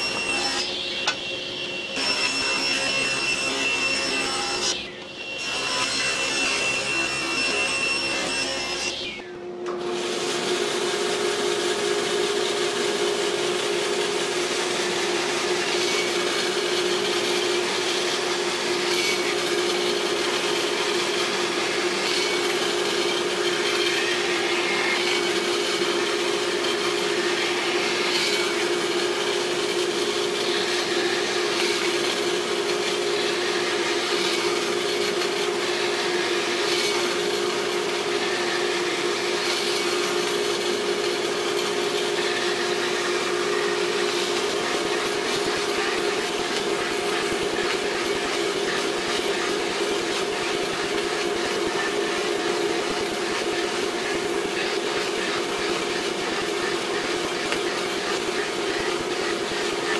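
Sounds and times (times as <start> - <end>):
bandsaw cutting wood: 0.0 - 59.9.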